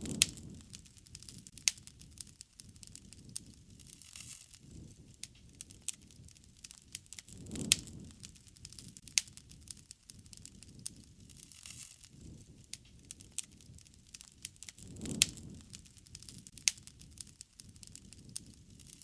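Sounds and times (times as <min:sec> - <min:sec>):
low rush of flame: 0:00.0 - 0:19.0
wood fire crackling: 0:00.0 - 0:19.0.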